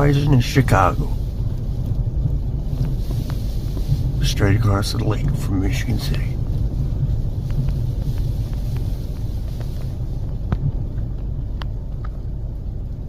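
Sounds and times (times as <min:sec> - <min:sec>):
light ticks: 0:00.0 - 0:13.0
wind buffeting microphone: 0:00.0 - 0:13.0.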